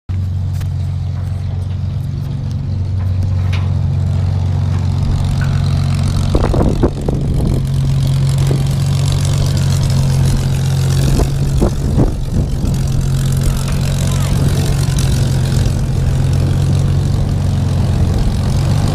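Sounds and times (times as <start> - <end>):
propeller aircraft engine: 0.1 - 18.9.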